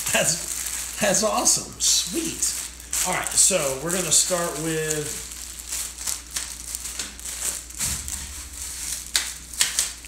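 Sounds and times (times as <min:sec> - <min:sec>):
plastic sleeve crinkling: 0:00.0 - 0:10.0.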